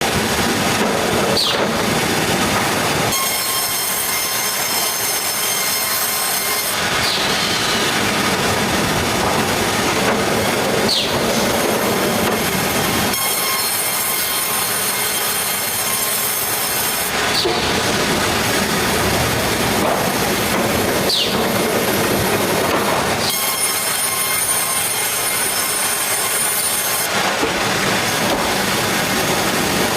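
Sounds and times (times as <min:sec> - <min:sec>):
saw blade cutting log whining: 0:00.1 - 0:29.9.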